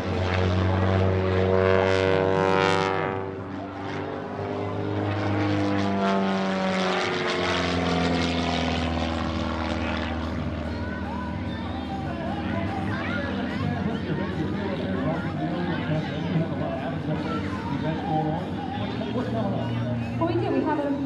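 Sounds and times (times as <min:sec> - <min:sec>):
biplane engine and propeller: 0:00.0 - 0:21.0.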